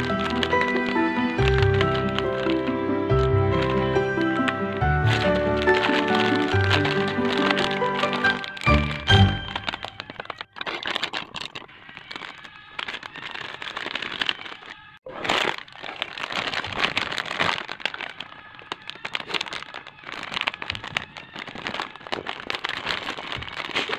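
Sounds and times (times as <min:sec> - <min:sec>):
plastic packets crinkling: 0:00.0 - 0:23.9.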